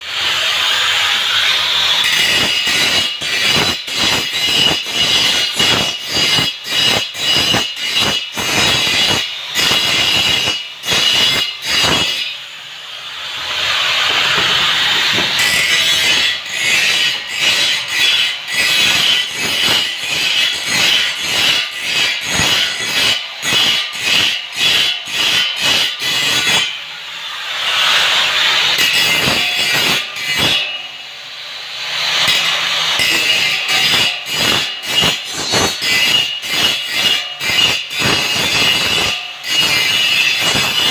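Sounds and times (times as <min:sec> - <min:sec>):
angle grinder grinding metal: 0:00.0 - 0:40.9.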